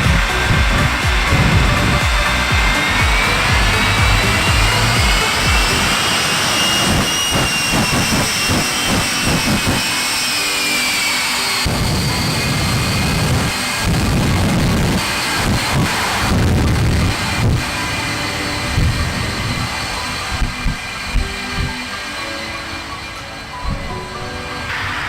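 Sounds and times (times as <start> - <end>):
high turbine whine: 0.0 - 25.0
jet engine roar: 0.0 - 25.0.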